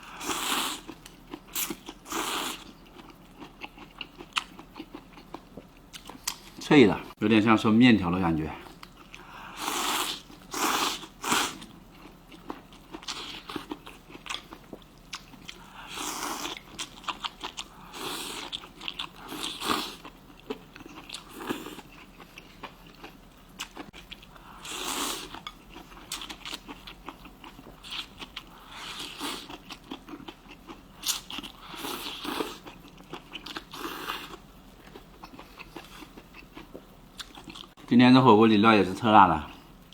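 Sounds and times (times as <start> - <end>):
person chewing crunchy food: 0.0 - 6.6, 8.6 - 37.8.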